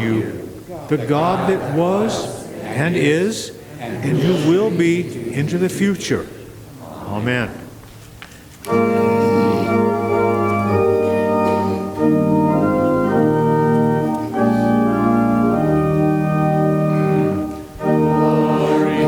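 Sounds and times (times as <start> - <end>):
church organ chords: 0.0 - 6.4, 8.6 - 19.0.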